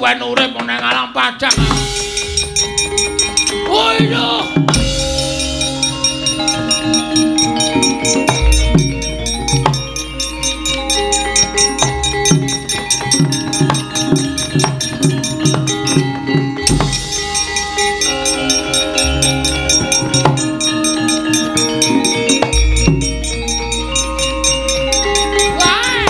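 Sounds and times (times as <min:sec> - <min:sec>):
deep gong note: 0:01.5 - 0:24.2
ringing metallophones: 0:01.5 - 0:26.0.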